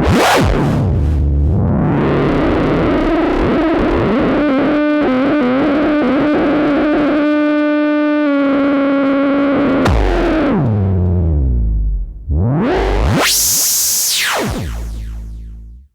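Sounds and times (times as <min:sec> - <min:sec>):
distorted noisy synthesizer: 0:00.0 - 0:15.9.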